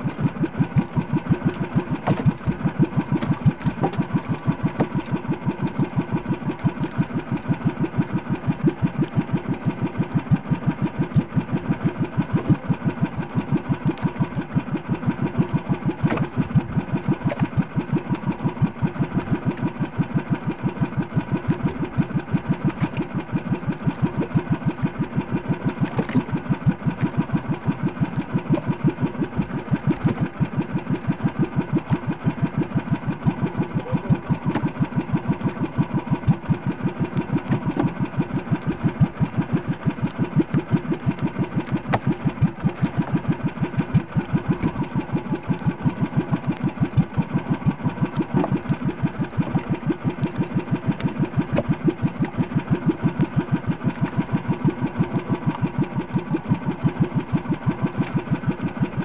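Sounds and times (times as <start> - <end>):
boat engine pulsing: 0.0 - 59.0.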